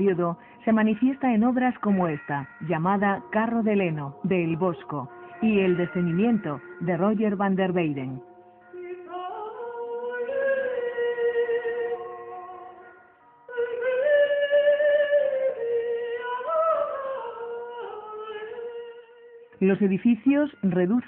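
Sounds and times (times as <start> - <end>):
background music with singing: 0.0 - 21.0.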